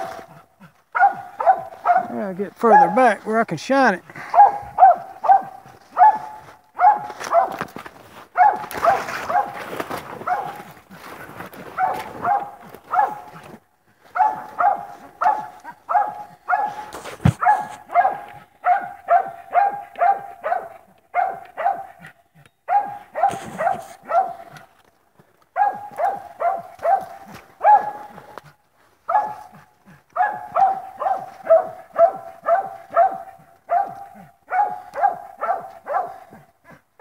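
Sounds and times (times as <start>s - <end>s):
dog barking: 0.0s - 3.2s, 4.2s - 10.8s, 11.7s - 13.5s, 14.1s - 24.7s, 25.5s - 36.8s.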